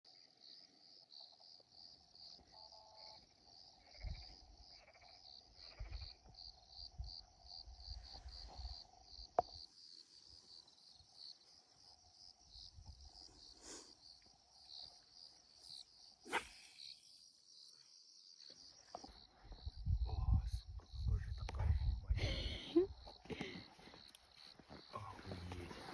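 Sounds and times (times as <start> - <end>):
crickets chirping: 0.1 - 25.9.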